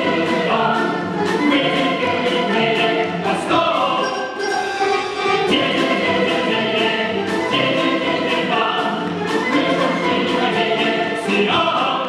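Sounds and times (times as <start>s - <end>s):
folk string orchestra playing: 0.0s - 12.0s.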